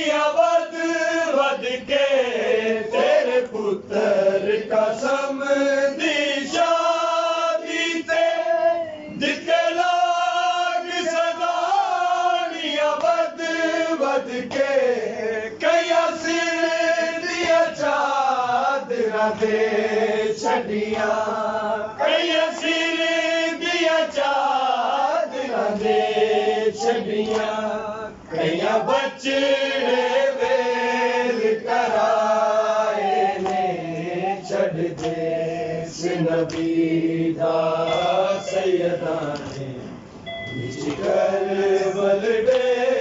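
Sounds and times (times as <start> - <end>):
men chanting: 0.0 - 40.0, 40.6 - 43.0.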